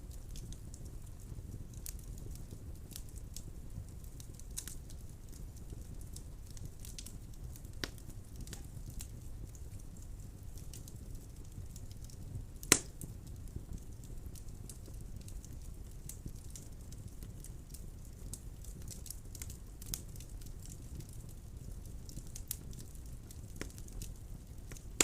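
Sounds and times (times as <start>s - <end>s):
fire popping: 0.0s - 25.0s
low rumble of flames: 0.0s - 25.0s
wood fire crackling: 0.0s - 25.0s.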